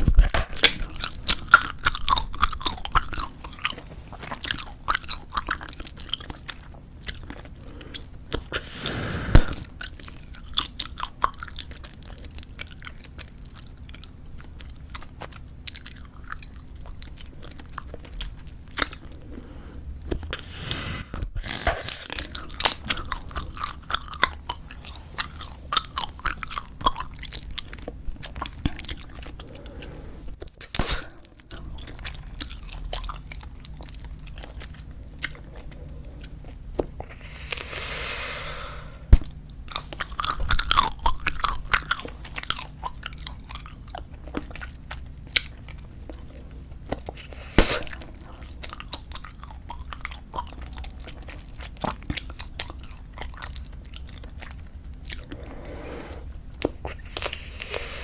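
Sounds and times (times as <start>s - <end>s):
bubble gum chewing: 0.0s - 58.0s.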